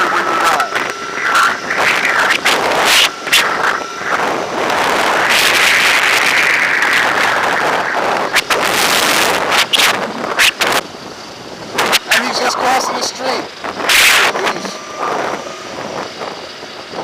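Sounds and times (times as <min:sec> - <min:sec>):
faint steady whine: 0:00.0 - 0:17.0
wind buffeting microphone: 0:00.2 - 0:17.0.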